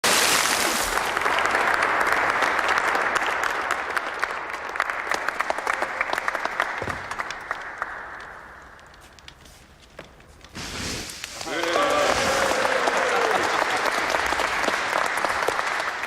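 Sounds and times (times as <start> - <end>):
audience applauding: 0.4 - 8.9, 11.3 - 16.0.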